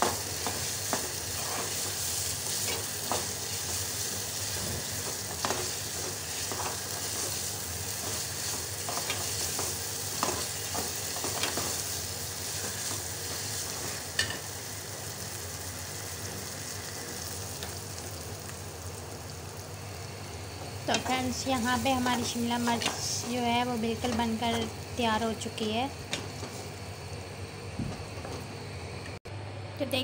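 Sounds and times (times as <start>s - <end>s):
food sizzling in a pan: 0.0s - 28.8s.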